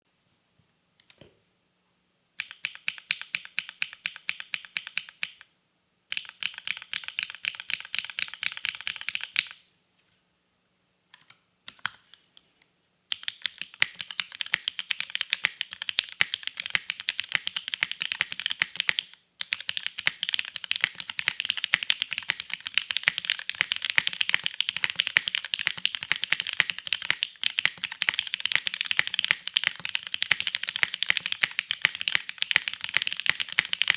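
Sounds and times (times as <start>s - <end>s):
mechanical keyboard typing: 2.4s - 5.4s, 6.1s - 9.6s, 13.1s - 33.9s.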